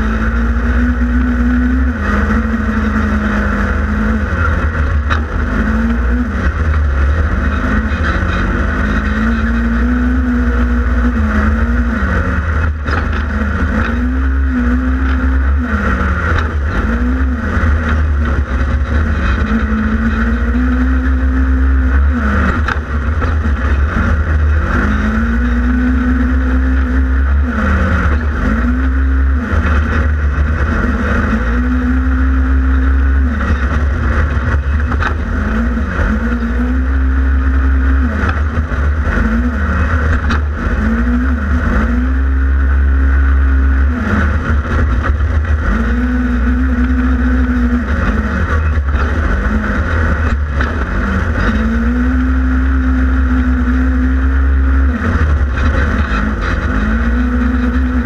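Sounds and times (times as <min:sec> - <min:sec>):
deep engine rumble: 0:00.0 - 0:58.0
engine revving: 0:00.0 - 0:58.0.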